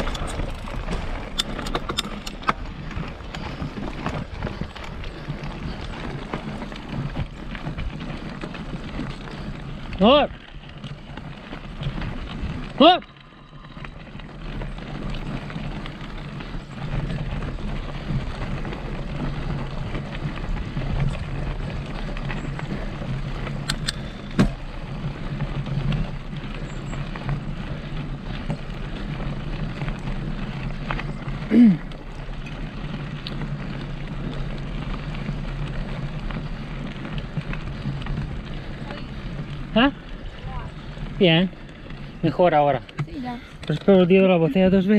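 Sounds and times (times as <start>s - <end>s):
bike clicks and rattles: 0.0s - 44.9s
bike tyres rumbling: 0.0s - 44.9s
wind: 0.0s - 44.9s.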